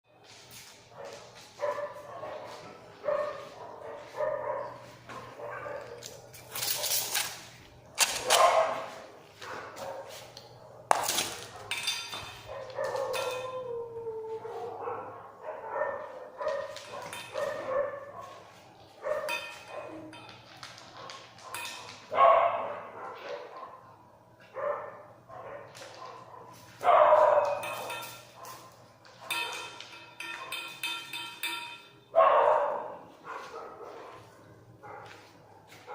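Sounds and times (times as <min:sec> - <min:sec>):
dog barking: 0:00.9 - 0:07.1, 0:08.2 - 0:11.8, 0:12.4 - 0:13.6, 0:14.4 - 0:20.1, 0:21.0 - 0:29.7, 0:32.1 - 0:35.9.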